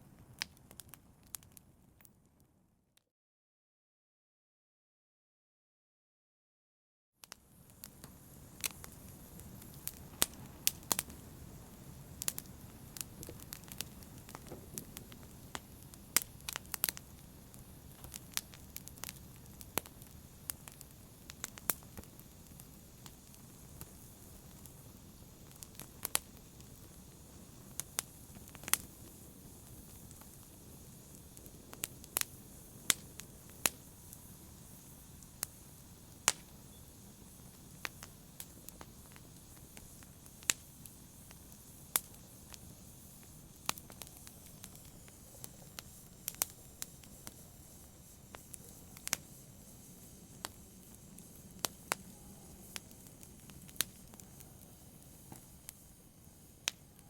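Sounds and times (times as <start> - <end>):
wood fire crackling: 0.2 - 2.1, 7.3 - 57.0
low rush of flames: 7.5 - 57.0.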